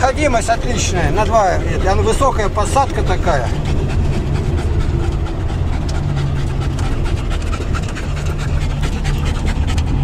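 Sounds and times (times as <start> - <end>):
dog panting: 0.0 - 10.0
road noise: 0.0 - 10.0
van engine drone: 0.0 - 10.0.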